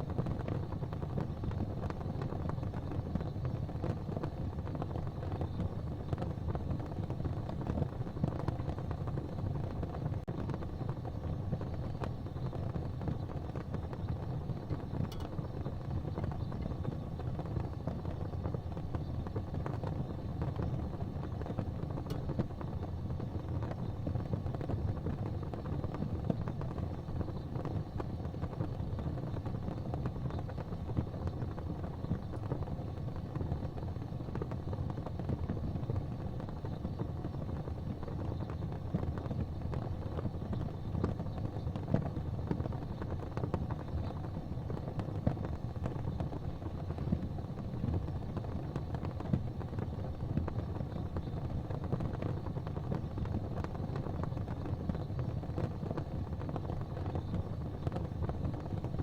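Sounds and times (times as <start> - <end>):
fire crackles: 0.0 - 59.0
fire rumbling rush: 0.0 - 59.0.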